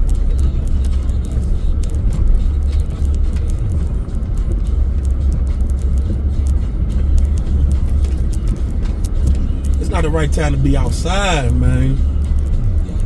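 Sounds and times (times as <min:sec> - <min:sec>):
sharp irregular ticks: 0:00.0 - 0:13.0
truck engine and road rumble: 0:00.0 - 0:13.0.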